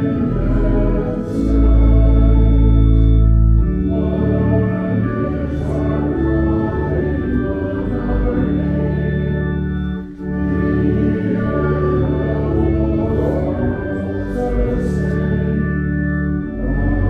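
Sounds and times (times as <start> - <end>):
church organ playing a hymn: 0.0 - 17.0.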